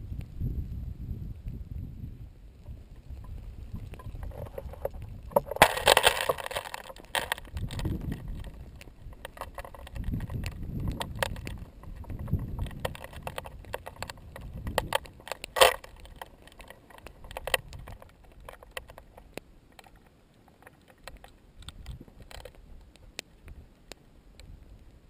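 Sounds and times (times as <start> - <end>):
lava crust crackling: 0.0 - 25.0.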